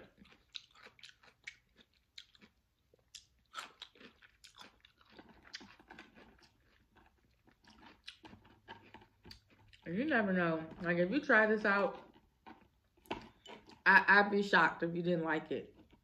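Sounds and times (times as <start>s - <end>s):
chewing crunchy cucumber: 0.0s - 13.9s, 15.6s - 16.0s.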